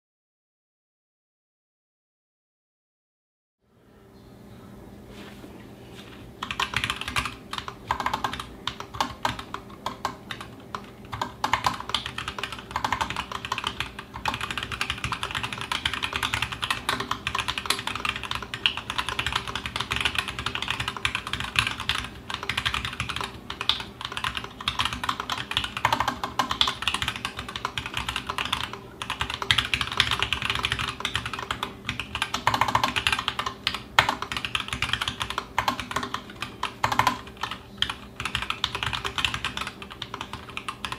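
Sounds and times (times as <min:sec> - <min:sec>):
mechanical keyboard typing: 0:06.4 - 0:40.9.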